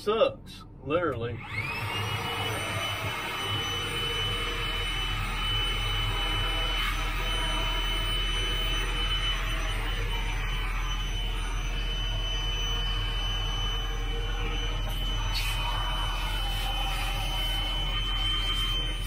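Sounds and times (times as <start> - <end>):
vacuum cleaner whining: 1.1 - 19.0.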